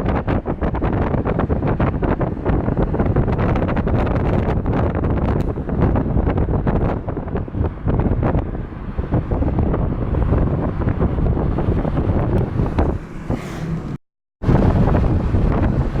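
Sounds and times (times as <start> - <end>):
wind gusting on microphone: 0.0 - 16.0.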